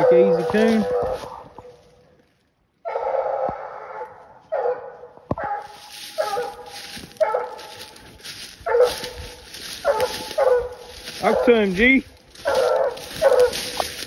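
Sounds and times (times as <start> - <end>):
dog barking: 0.0 - 1.7, 2.8 - 14.0.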